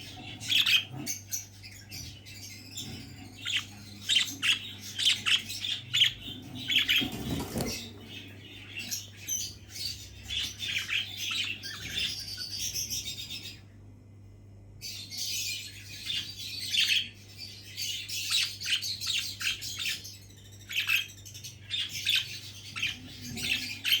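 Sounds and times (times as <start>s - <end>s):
budgerigars chirping and chattering: 0.0s - 13.7s, 14.8s - 24.0s
faint steady hum: 0.0s - 24.0s.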